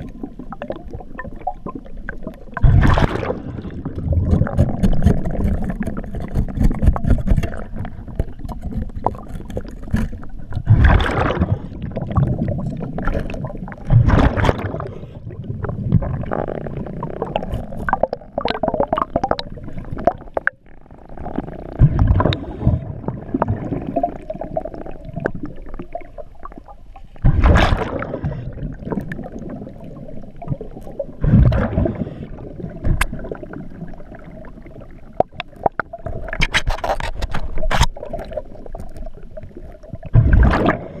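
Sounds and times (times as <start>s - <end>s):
exhaled bubbles underwater: 0.0s - 36.5s, 37.3s - 41.0s
muffled rumble of water: 0.0s - 41.0s.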